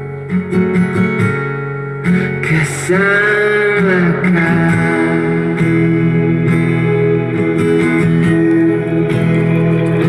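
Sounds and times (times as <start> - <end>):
pop music guitar strumming: 0.0 - 10.0.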